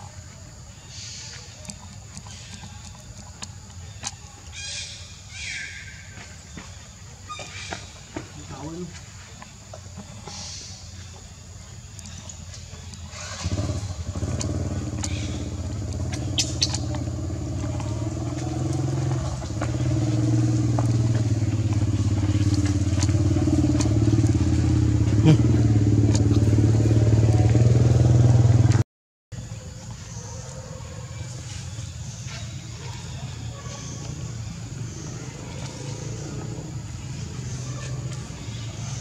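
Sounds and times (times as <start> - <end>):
engine humming: 0.0 - 28.8, 29.4 - 39.0.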